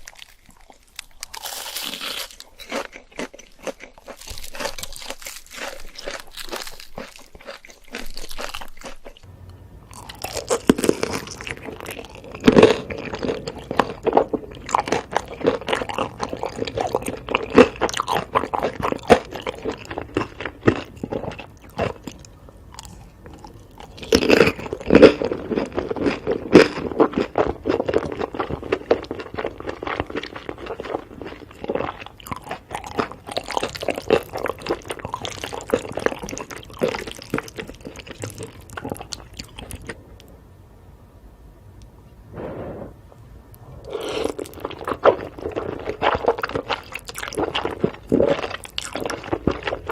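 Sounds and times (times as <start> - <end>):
person crunching food: 0.0 - 9.3, 9.9 - 40.3, 43.8 - 49.9.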